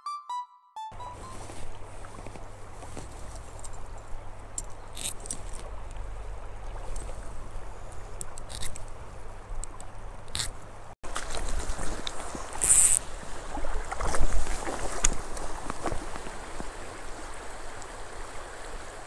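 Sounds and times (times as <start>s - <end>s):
creek water running: 1.0s - 19.0s
wind rumble on microphone: 1.2s - 19.0s.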